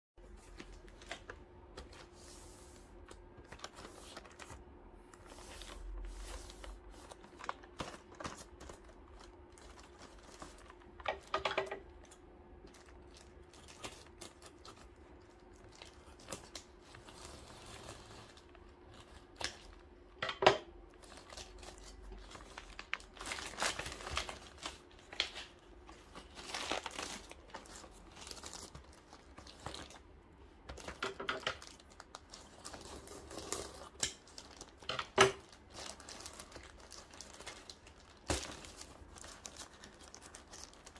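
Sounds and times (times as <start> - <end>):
plastic bag crinkling and tearing: 3.0 - 20.0, 20.9 - 30.1, 30.7 - 40.9.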